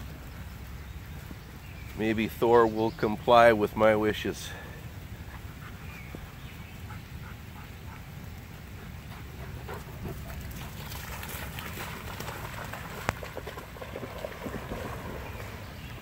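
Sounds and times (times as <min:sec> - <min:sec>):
rain and wind hiss: 0:00.0 - 0:13.2
dogs splashing through water: 0:03.0 - 0:16.0.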